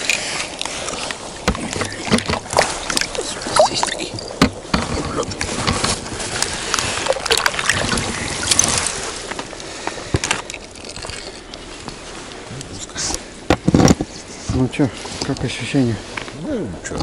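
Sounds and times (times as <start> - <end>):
fish handling knocks and scrapes: 0.0 - 15.4.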